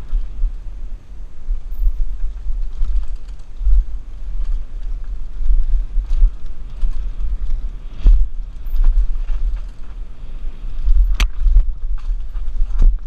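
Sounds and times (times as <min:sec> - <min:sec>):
bike rattling over rough trail: 0:00.0 - 0:13.0
wind buffeting microphone: 0:00.0 - 0:13.0.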